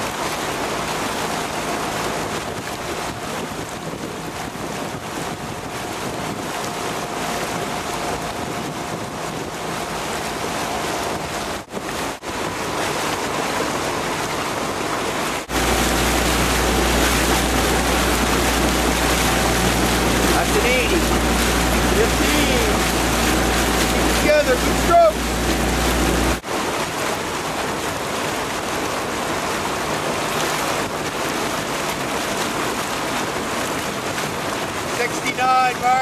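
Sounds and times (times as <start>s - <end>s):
water rushing and lapping: 0.0s - 36.0s
wind buffeting microphone: 0.5s - 35.0s.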